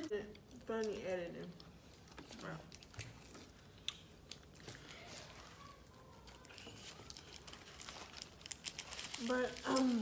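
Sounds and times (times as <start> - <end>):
rustling of food and napkins: 0.0 - 10.0.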